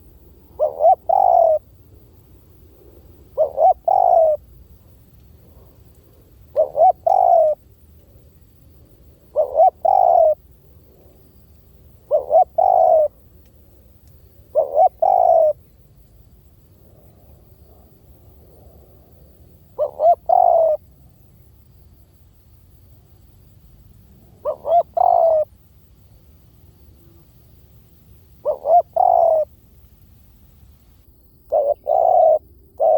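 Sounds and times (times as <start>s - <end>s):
dove cooing: 0.0s - 15.7s, 16.8s - 20.9s, 24.2s - 25.6s, 27.1s - 32.9s.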